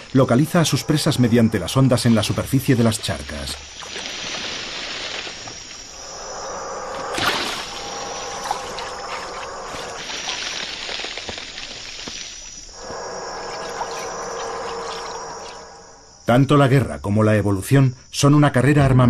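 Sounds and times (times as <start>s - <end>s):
trickling water: 0.0s - 16.0s
insects: 0.0s - 19.0s.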